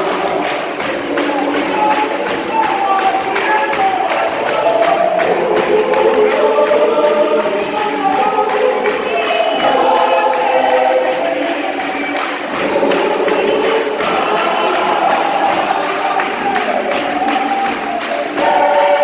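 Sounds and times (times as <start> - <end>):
gospel choir singing a hymn: 0.0 - 19.0
steady rhythmic beat: 0.0 - 19.0.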